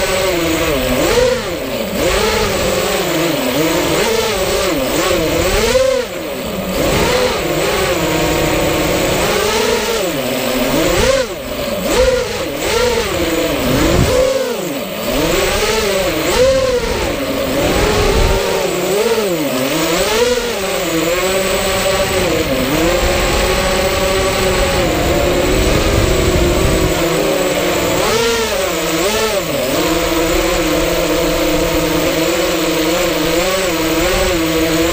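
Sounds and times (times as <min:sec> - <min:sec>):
drone motors whining: 0:00.0 - 0:34.9.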